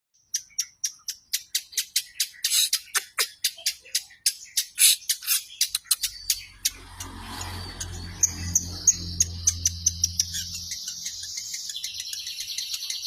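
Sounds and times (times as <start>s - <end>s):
bird calling harsh notes: 0.4s - 13.0s.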